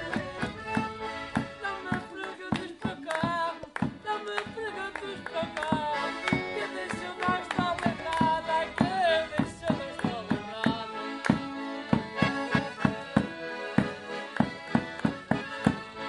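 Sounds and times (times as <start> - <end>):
accordions playing folk dance tune: 0.0 - 16.0.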